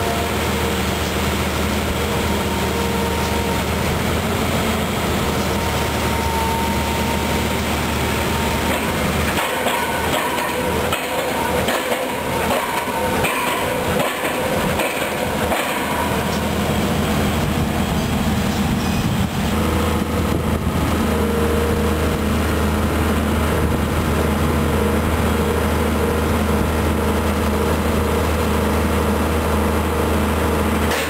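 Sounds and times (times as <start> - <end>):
diesel excavator engine running: 0.0 - 31.0
steel tracks rattling and clanking: 0.0 - 31.0.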